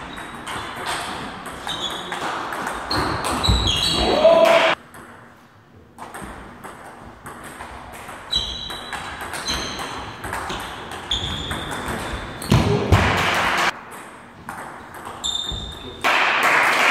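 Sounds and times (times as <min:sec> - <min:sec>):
table tennis ball pinging: 0:00.0 - 0:04.0, 0:06.0 - 0:16.0.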